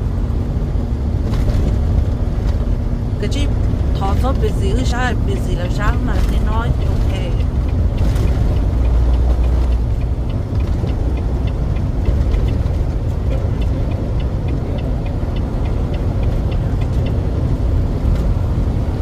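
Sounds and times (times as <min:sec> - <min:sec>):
truck engine and road rumble: 0:00.0 - 0:19.0
light ticking: 0:03.3 - 0:19.0.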